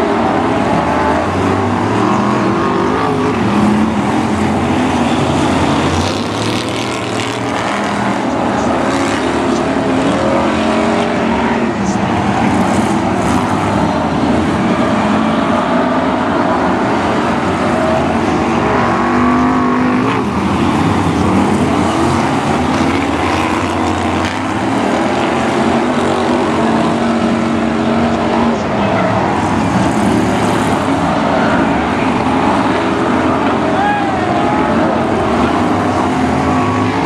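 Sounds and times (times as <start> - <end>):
race car engines: 0.0 - 37.0.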